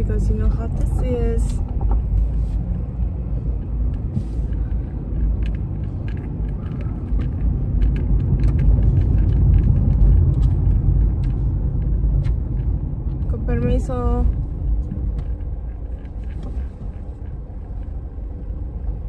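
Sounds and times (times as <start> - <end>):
road and engine rumble: 0.0 - 19.0
light clicks and rattles: 0.1 - 18.9.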